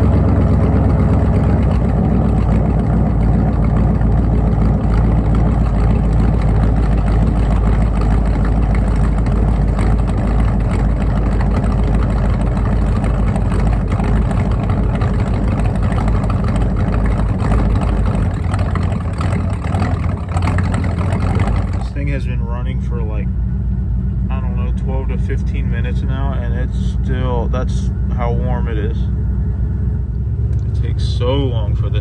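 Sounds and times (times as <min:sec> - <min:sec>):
pickup truck engine idling: 0:00.0 - 0:32.0.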